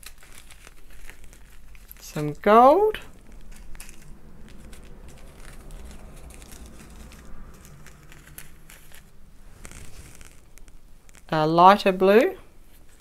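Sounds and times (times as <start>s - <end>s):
plastic bags crinkling: 0.0s - 11.4s, 12.5s - 13.0s
small rhinestones clicking: 0.0s - 11.4s.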